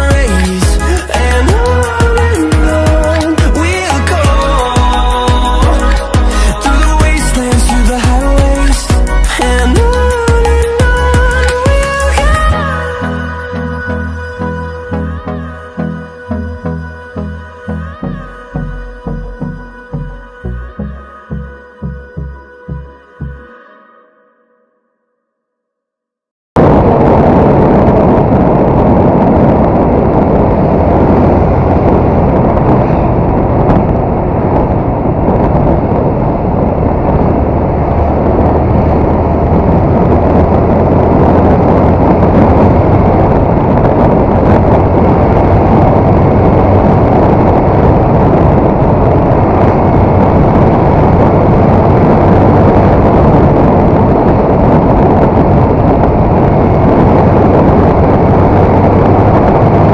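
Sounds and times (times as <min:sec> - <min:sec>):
wind rush on microphone: 0:00.0 - 0:23.4, 0:26.6 - 0:59.9.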